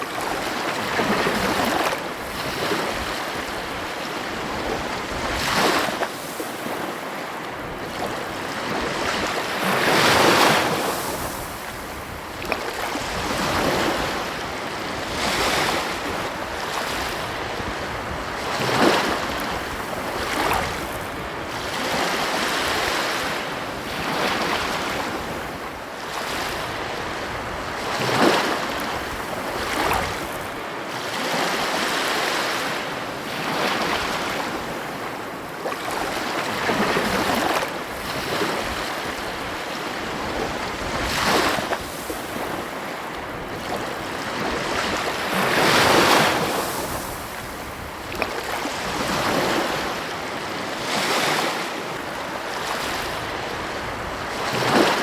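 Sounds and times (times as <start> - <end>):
waves crashing: 0.0 - 55.0.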